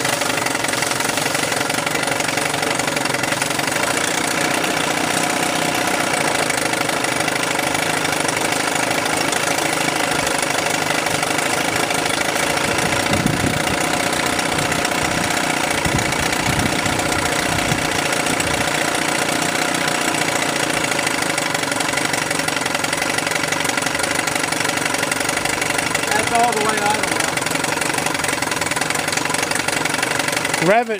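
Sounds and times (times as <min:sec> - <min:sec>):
outboard motor running in water: 0:00.0 - 0:30.9.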